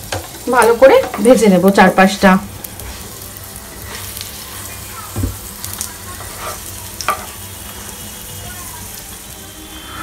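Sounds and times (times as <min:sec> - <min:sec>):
hot oil sizzling in a frying pan: 0:00.0 - 0:10.0.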